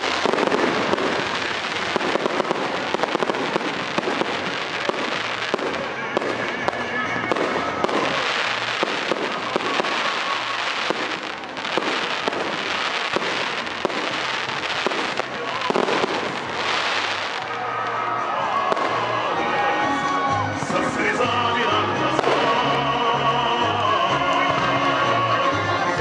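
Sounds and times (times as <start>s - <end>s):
fireworks bursting with sharp bangs: 0.0s - 19.6s, 21.9s - 23.3s
music: 0.0s - 26.0s.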